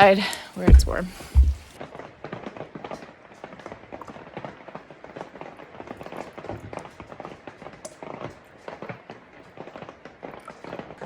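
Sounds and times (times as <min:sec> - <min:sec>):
rain pattering on a roof: 0:00.0 - 0:11.0.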